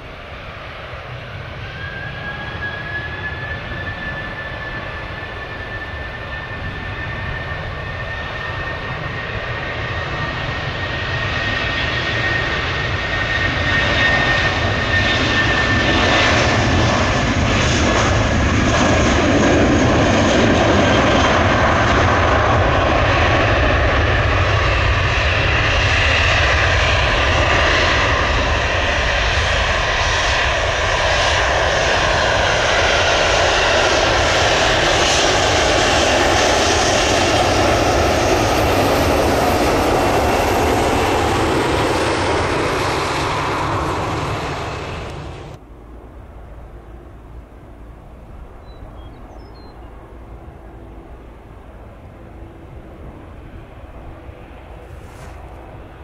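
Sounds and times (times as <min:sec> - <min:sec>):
jet engines running loud: 0:00.0 - 0:56.0.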